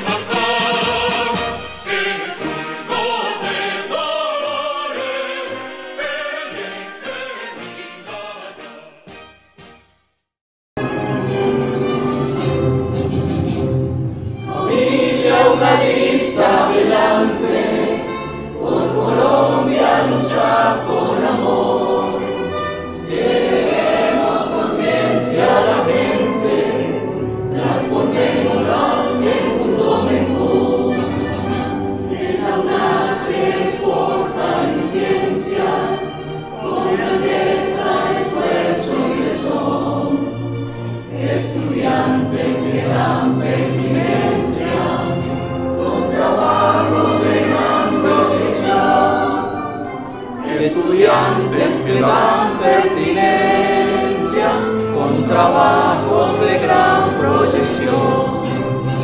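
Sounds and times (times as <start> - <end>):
choir singing an anthem: 0.0 - 9.2, 14.3 - 59.0
musical accompaniment: 0.0 - 10.2, 10.8 - 59.0.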